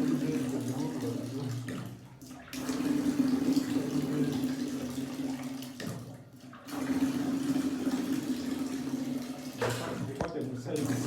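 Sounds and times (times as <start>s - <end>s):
water rushing from heater: 0.0s - 11.0s.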